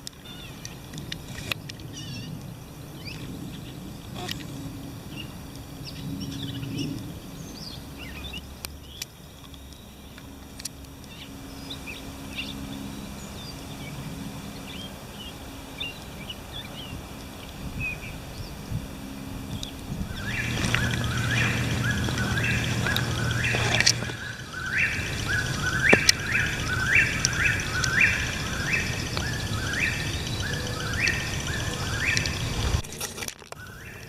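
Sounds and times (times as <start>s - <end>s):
birds chirping: 0.0s - 34.0s
low steady hum and rumble: 0.0s - 34.0s.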